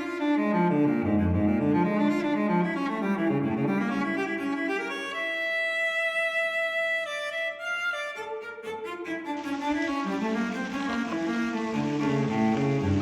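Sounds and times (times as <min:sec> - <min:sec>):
low bowed strings music: 0:00.0 - 0:13.0.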